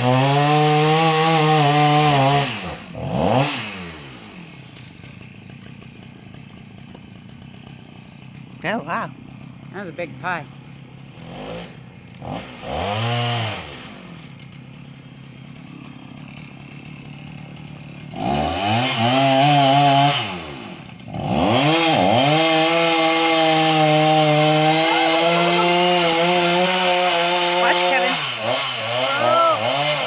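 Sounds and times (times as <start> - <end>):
chainsaw revving and cutting: 0.0 - 30.0.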